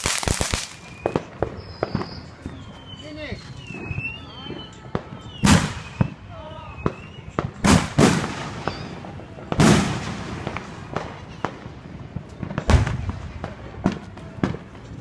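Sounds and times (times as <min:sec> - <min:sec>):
fireworks booming: 0:00.0 - 0:15.0
fireworks crackling pops: 0:00.0 - 0:15.0.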